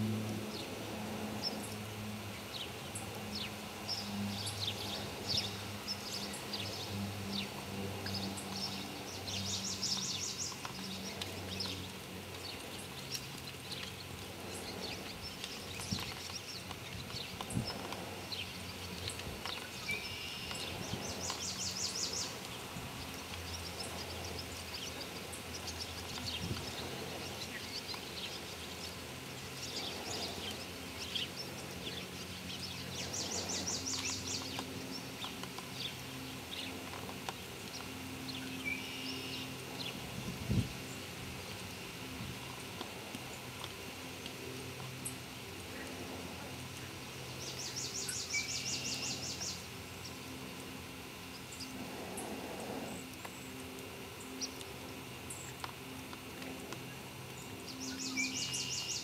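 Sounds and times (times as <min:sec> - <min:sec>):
birds chirping: 0:00.0 - 0:59.0
low steady hum: 0:00.0 - 0:59.0.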